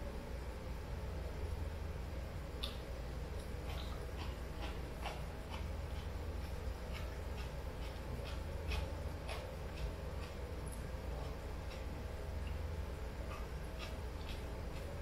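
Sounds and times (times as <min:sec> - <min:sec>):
low room hum: 0:00.0 - 0:15.0
chewing coleslaw: 0:02.6 - 0:15.0.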